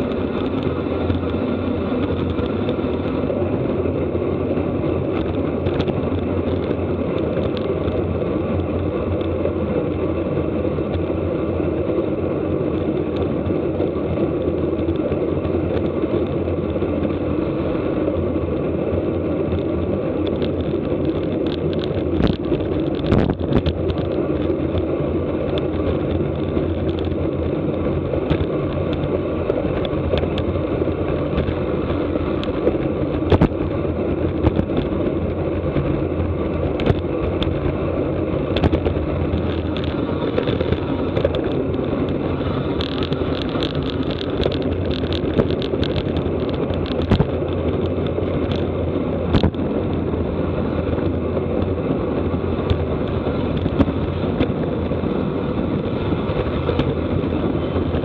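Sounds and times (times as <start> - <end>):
bicycle road noise: 0.0 - 58.0.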